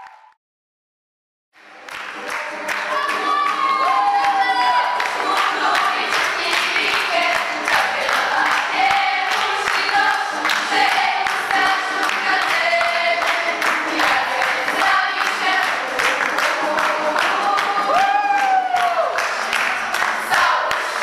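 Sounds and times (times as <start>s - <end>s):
hands clapping: 1.6s - 21.0s
young voices singing together: 2.6s - 21.0s.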